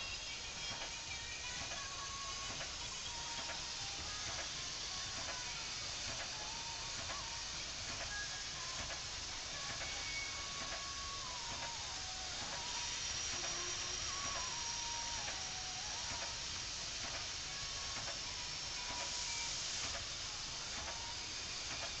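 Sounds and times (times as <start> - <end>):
steam locomotive hissing: 0.0 - 22.0.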